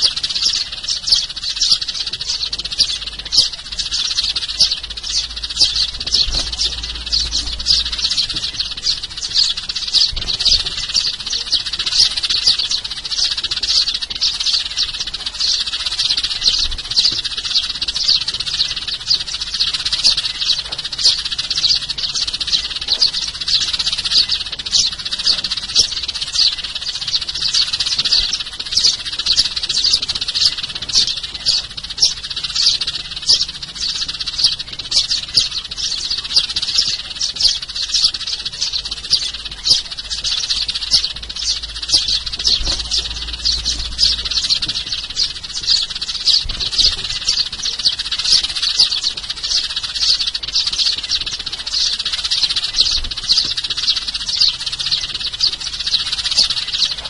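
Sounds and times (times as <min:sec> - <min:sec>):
sparrows chirping: 0:00.0 - 0:57.0.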